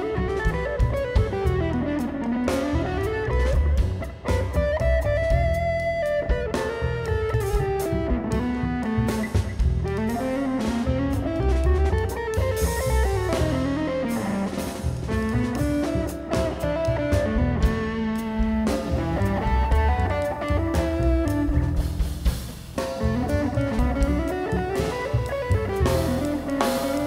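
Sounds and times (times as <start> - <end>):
drums: 0.0 - 27.0
guitar melody: 0.0 - 27.0.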